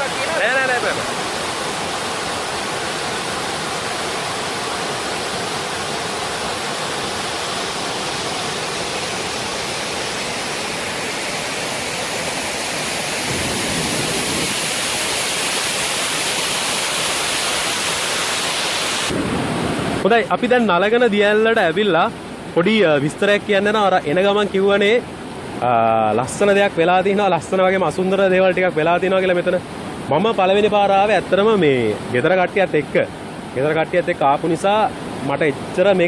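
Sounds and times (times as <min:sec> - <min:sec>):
waterfall water rushing: 0:00.0 - 0:36.0.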